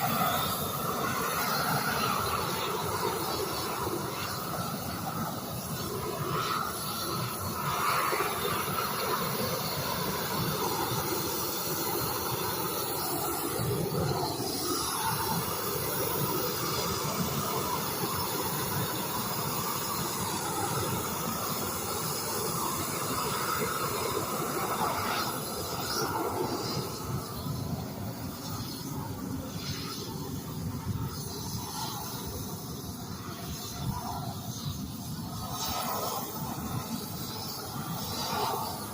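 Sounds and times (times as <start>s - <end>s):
gas torch burning: 0.0s - 38.9s.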